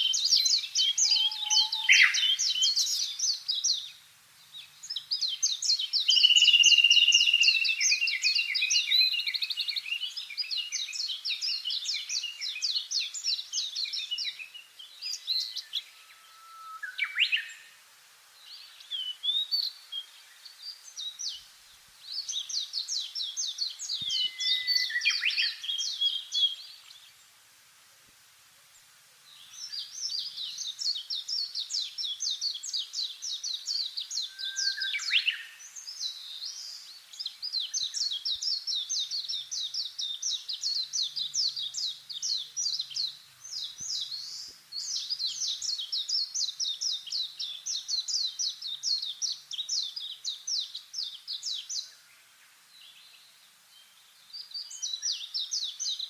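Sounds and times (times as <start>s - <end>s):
songbirds chirping trills: 0.0s - 27.4s, 28.6s - 56.0s.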